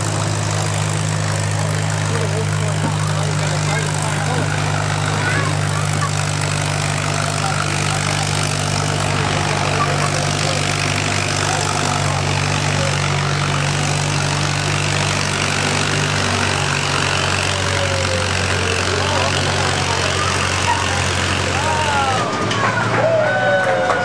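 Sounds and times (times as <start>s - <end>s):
tractor engine droning: 0.0s - 24.0s.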